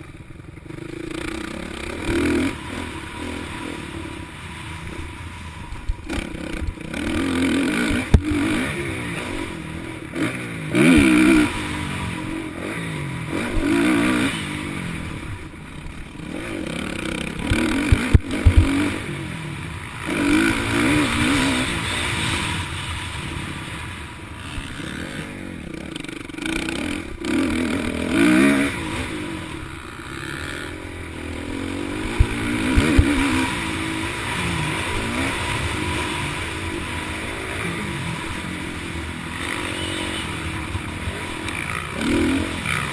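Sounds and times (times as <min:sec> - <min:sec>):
motocross engines revving: 0:00.0 - 0:42.9.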